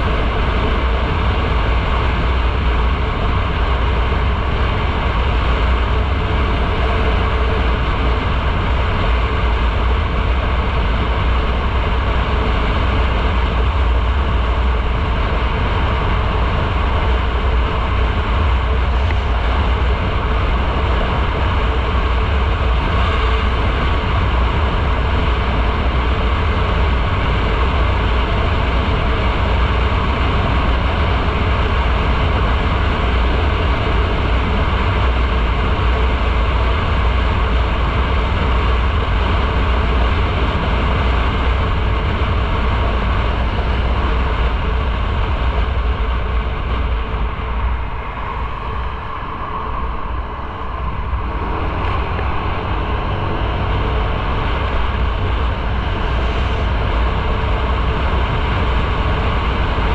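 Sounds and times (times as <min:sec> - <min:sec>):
motorcycle engine rumble: 0:00.0 - 0:59.9
wind and road noise: 0:00.0 - 0:59.9.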